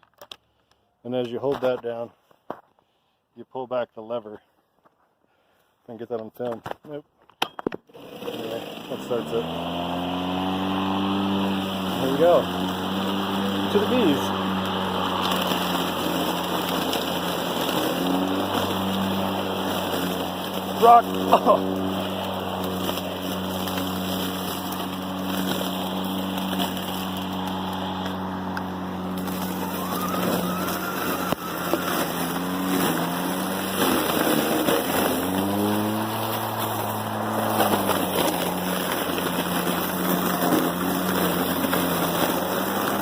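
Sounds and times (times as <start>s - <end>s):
lawn mower motor whirring: 7.9s - 43.0s
rustle of cut vegetation: 8.0s - 43.0s.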